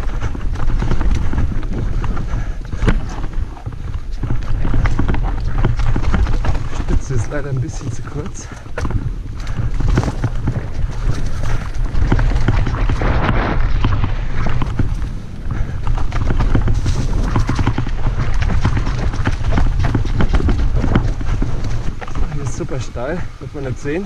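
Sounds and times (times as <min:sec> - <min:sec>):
bike rattling: 0:00.0 - 0:24.0
bike tyres knocking over rocks: 0:00.0 - 0:24.0
wind rumble on microphone: 0:00.0 - 0:24.0.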